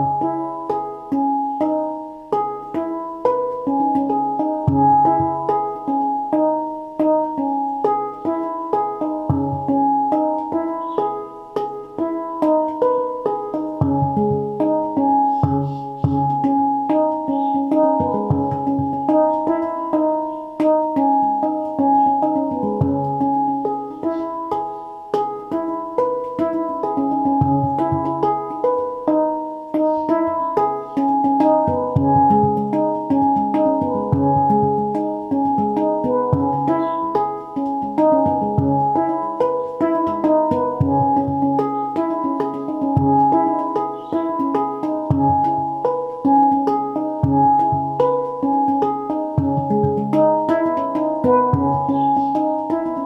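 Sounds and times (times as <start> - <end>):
handpan notes ringing: 0.0 - 53.0.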